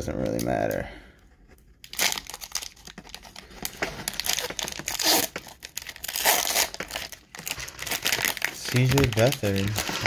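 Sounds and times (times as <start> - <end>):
wrapper tearing and crinkling: 1.8 - 10.0.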